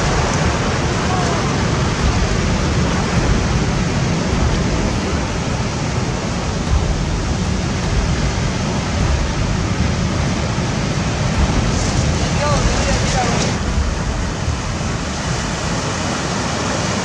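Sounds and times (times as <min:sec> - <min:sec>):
sea surf: 0:00.0 - 0:17.0
wind: 0:00.0 - 0:17.0.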